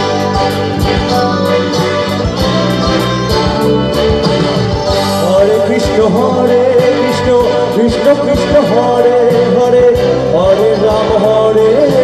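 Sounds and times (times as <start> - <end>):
bass guitar: 0.0 - 12.0
keyboard: 0.0 - 12.0
lead melody with bending notes: 0.0 - 12.0.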